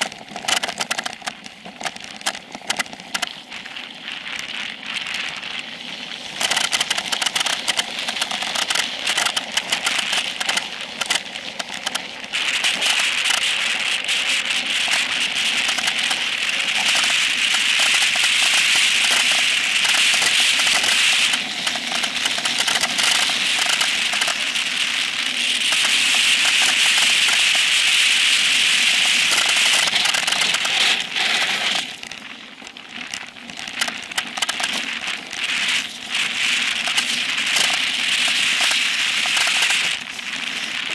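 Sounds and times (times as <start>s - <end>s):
bike rattling and clicking: 0.0s - 40.9s
wind and tyre noise on dirt: 0.0s - 40.9s.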